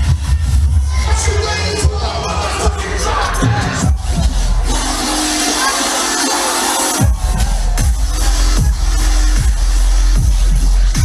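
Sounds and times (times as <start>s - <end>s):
crowd cheering and shouting: 0.0s - 11.0s
electronic dance music: 0.0s - 11.0s.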